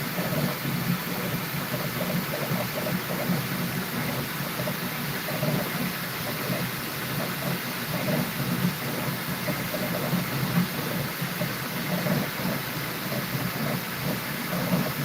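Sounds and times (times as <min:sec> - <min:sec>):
three-d printer whirring: 0:00.0 - 0:15.0.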